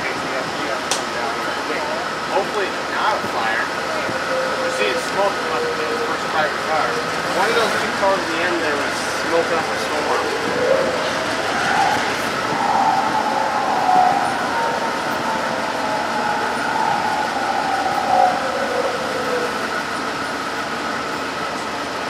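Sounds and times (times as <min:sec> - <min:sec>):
faint wavering whine: 0:00.0 - 0:22.0
train cars rolling on track: 0:00.0 - 0:22.0.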